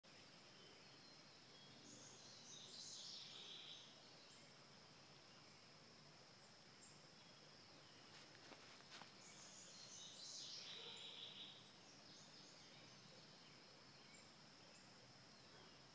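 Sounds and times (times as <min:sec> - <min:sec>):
faint background hiss: 0:00.0 - 0:15.9.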